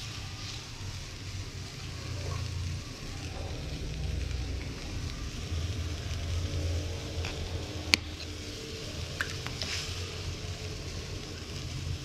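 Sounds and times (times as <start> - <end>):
faint sizzling: 0.0 - 12.0
low cooking rumble: 0.0 - 12.0.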